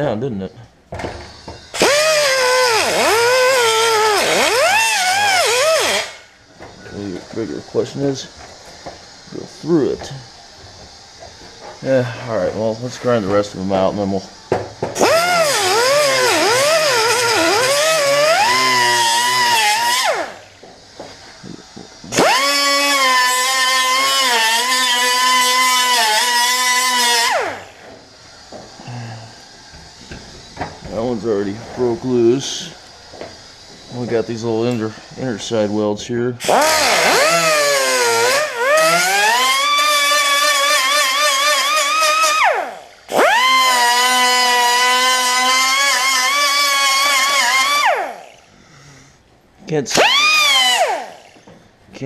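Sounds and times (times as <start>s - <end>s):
power grinder whining: 1.2s - 14.2s, 14.8s - 49.1s, 49.7s - 51.7s.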